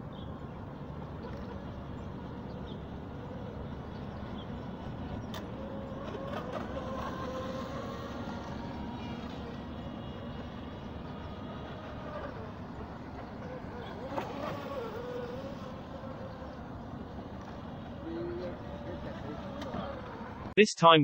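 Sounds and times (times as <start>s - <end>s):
faint motor whine: 0.0s - 20.6s.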